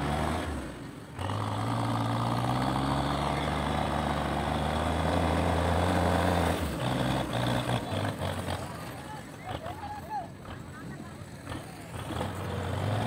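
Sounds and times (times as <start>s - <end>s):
tractor diesel engine running hard: 0.0s - 13.0s.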